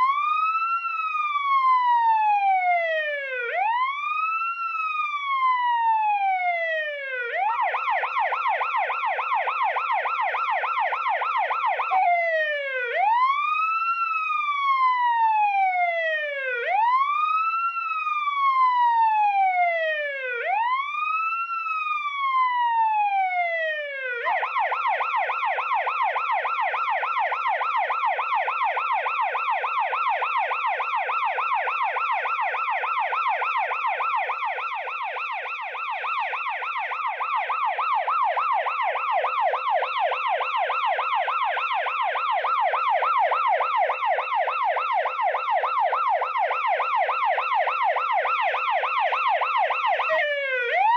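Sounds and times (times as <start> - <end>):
police siren wail and yelp: 0.0 - 50.9.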